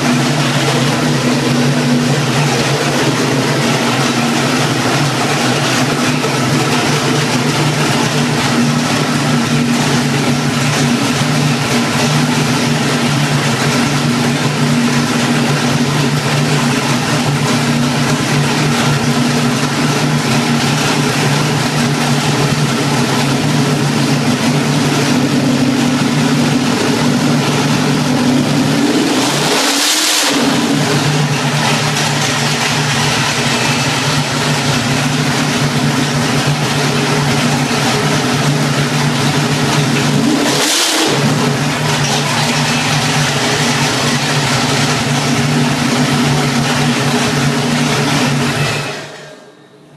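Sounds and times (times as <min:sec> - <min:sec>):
engine idling and revving: 0:00.0 - 0:49.3.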